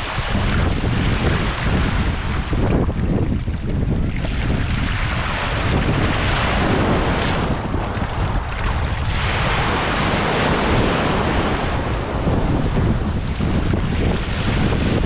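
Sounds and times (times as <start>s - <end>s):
surf breaking in shallow water: 0.0s - 15.0s
wind buffeting microphone: 0.0s - 15.0s.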